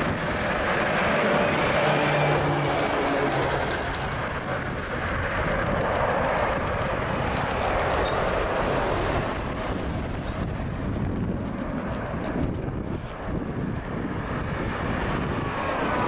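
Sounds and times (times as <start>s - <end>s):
jet engines at takeoff: 0.0s - 16.0s.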